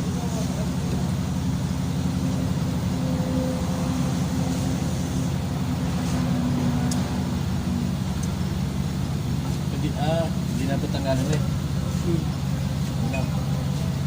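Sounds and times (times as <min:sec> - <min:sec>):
machine low drone: 0:00.0 - 0:14.0.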